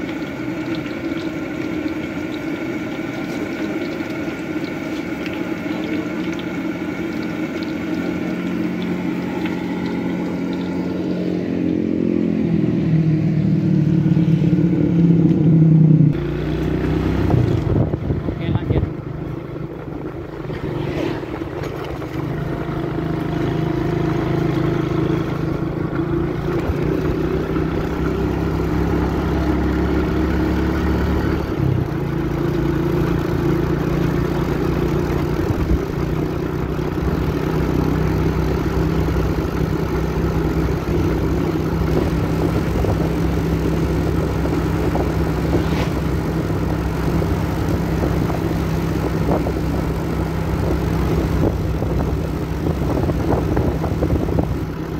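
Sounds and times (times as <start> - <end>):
road noise: 0.0 - 54.9
vehicle engine running: 0.0 - 54.9.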